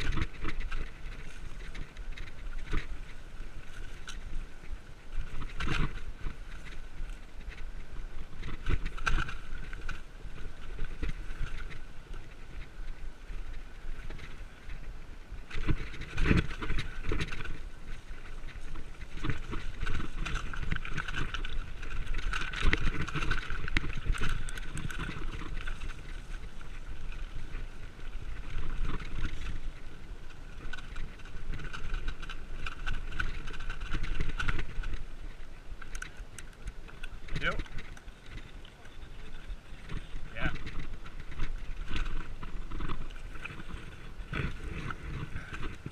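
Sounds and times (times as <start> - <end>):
bike rattling over bumps: 0.0 - 45.9
bike tyres rumbling over dirt: 0.0 - 45.9.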